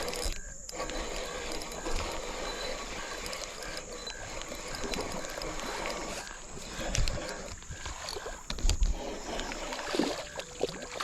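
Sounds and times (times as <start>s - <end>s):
fishing reel clicking: 0.0s - 11.0s.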